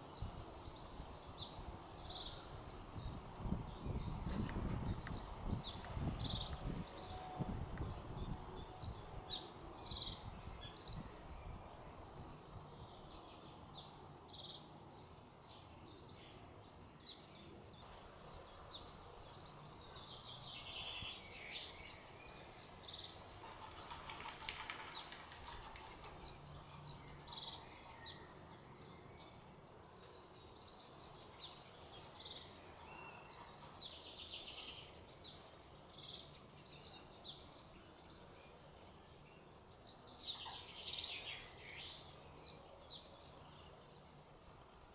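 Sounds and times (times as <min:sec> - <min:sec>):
bird singing: 0:00.0 - 0:44.9.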